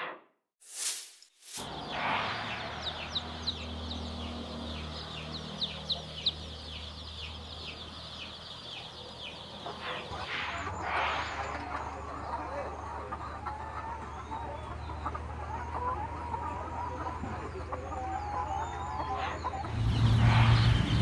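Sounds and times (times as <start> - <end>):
chicks peeping: 1.6 - 21.0.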